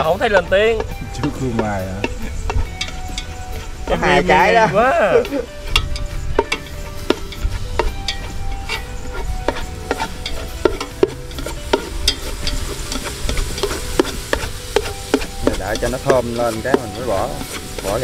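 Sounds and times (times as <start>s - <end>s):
garlic sizzling in hot oil: 0.0s - 18.0s
spatula scraping a pan: 0.8s - 18.0s.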